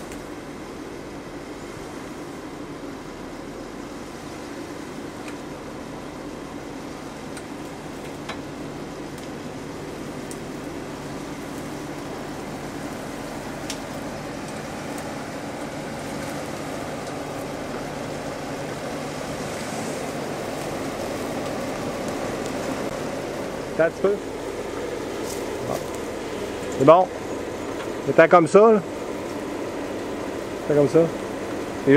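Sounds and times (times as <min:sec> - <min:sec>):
car engine running at low revs: 0:00.0 - 0:31.9.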